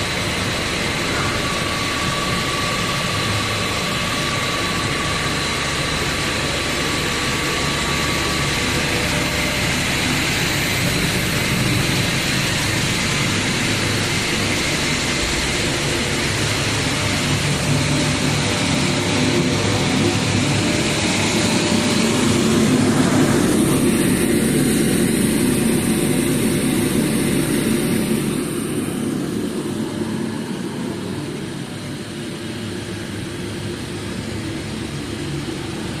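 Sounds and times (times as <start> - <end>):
machine humming with hiss: 0.0 - 36.0.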